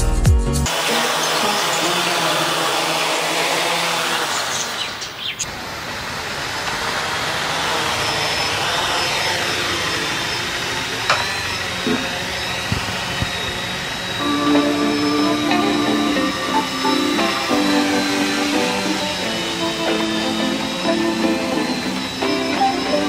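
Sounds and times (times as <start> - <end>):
drone motors whirring: 0.7 - 23.0.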